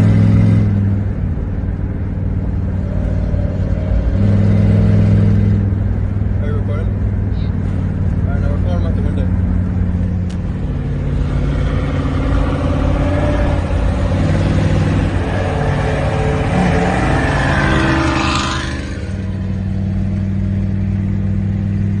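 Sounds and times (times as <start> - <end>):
car engine at highway speed: 0.0 - 22.0.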